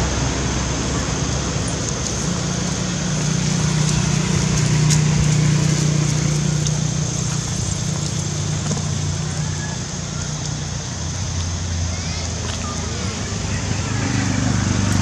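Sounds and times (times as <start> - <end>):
low motor drone: 0.0 - 15.0
outdoor hiss: 0.0 - 15.0.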